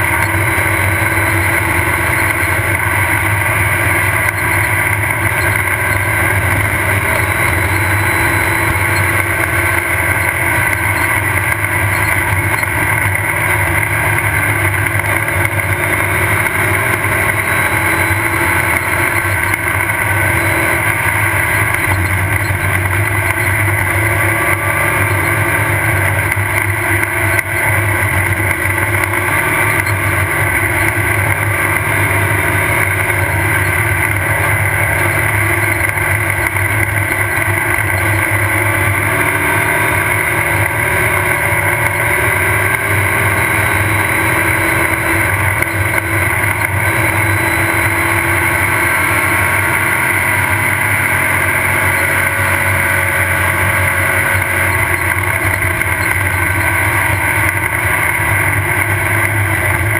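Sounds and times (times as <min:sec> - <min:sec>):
race car engine running: 0:00.0 - 0:59.9
rattling road noise: 0:00.0 - 0:59.9.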